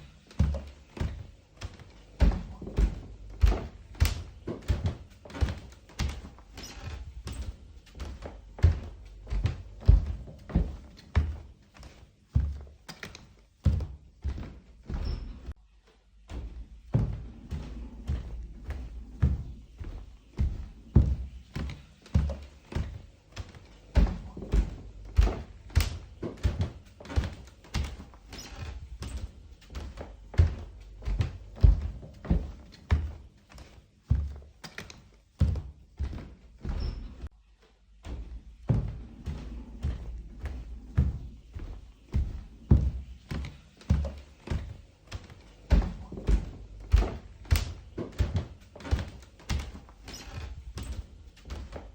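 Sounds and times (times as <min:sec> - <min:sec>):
heavy thudding footsteps: 0:00.0 - 0:37.4, 0:38.0 - 0:51.9.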